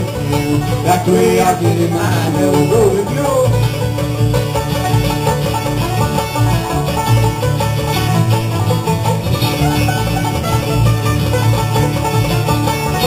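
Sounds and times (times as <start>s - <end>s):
acoustic guitar picking: 0.0s - 13.0s
banjo picking: 0.0s - 13.0s
plucked upright bass: 0.0s - 13.0s.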